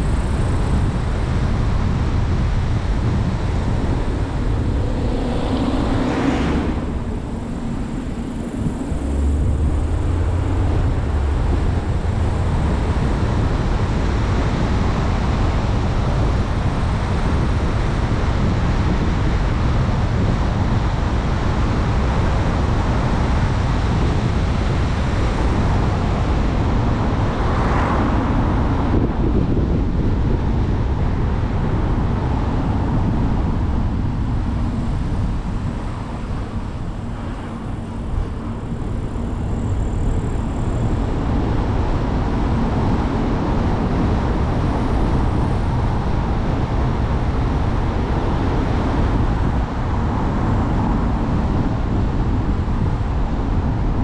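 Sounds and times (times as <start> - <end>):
vehicles passing: 0.0 - 19.6, 23.3 - 52.0
car road and wind noise: 0.0 - 54.0.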